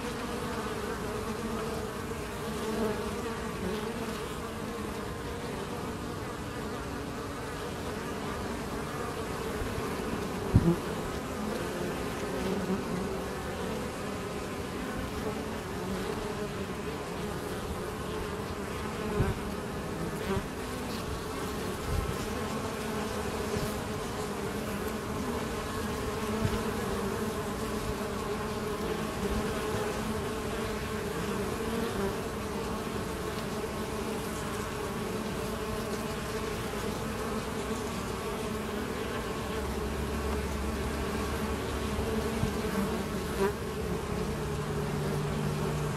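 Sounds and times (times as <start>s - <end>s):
honey bees buzzing: 0.0s - 45.9s.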